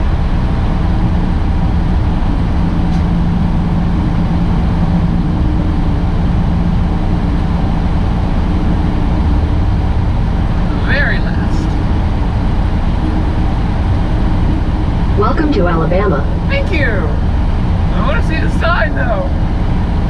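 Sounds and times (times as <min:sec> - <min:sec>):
truck engine and tyres droning: 0:00.0 - 0:20.0.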